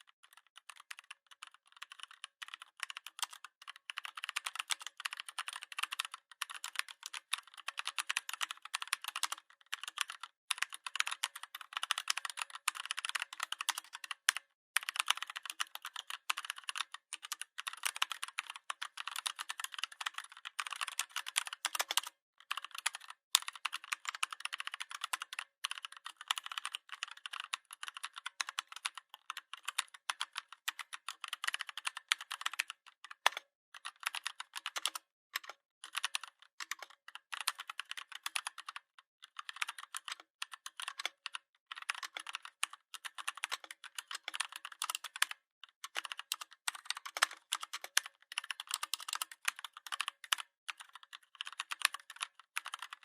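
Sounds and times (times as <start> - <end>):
keyboard typing: 0.2 - 53.0.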